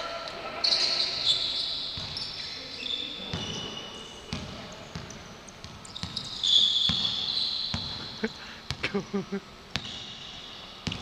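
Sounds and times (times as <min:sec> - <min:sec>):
sneakers squeaking on court floor: 0:00.5 - 0:09.1, 0:09.7 - 0:11.0.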